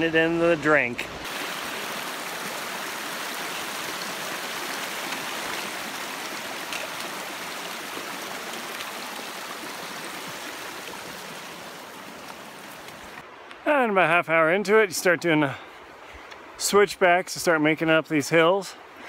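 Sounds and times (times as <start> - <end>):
creek water flowing: 0.0 - 19.0.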